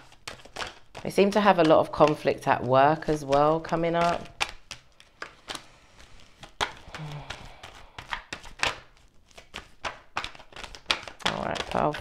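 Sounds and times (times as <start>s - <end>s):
card rustling: 0.0s - 12.0s
cards shuffling: 0.0s - 12.0s.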